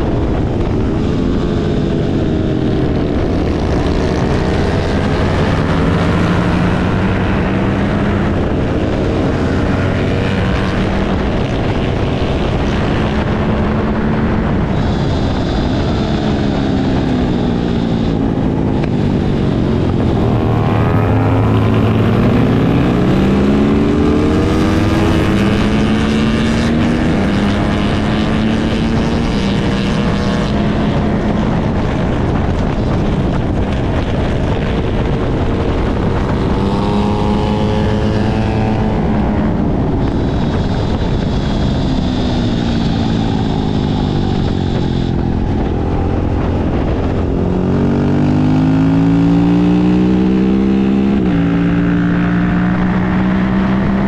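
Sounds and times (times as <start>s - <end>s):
heavy wind rush: 0.0s - 54.0s
racing motorcycle engine: 0.0s - 54.0s.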